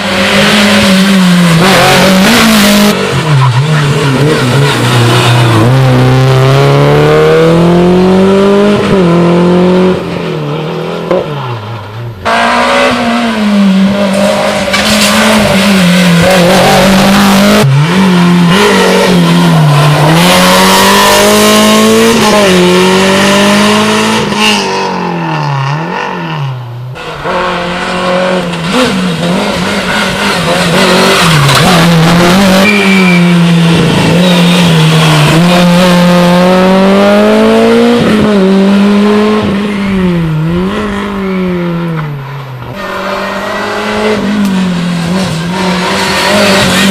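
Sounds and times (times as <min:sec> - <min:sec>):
rally car engines revving hard: 0:00.0 - 0:46.9.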